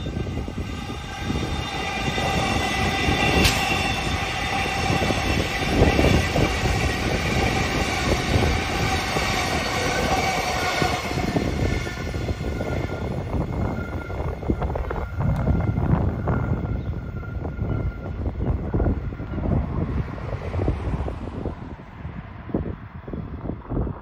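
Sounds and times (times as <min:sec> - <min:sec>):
train high whine: 0:00.0 - 0:22.1
train wheels rumbling on rails: 0:00.0 - 0:24.0.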